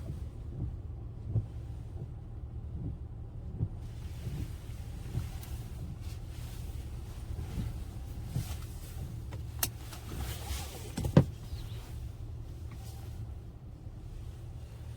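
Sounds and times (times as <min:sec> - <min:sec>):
low rumble inside vehicle cab: 0:00.0 - 0:14.9.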